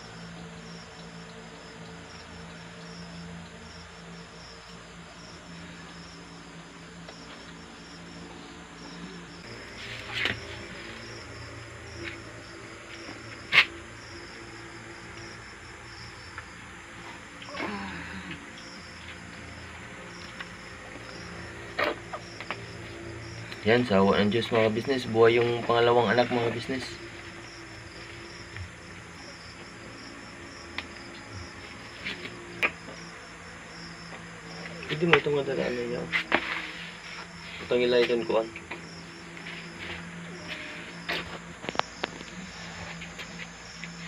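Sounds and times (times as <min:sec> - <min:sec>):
crickets chirping: 0:00.0 - 0:44.0
low steady hum: 0:00.0 - 0:44.0.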